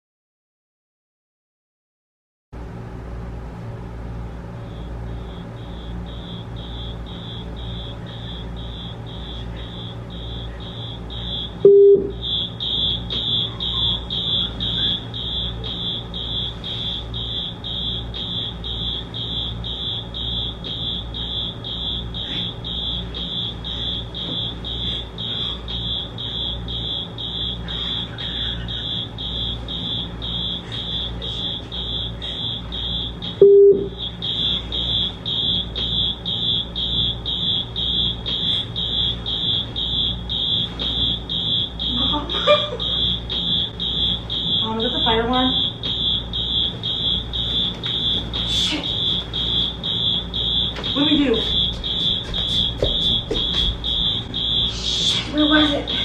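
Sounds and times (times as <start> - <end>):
smoke alarm beeping: 4.6 - 56.0.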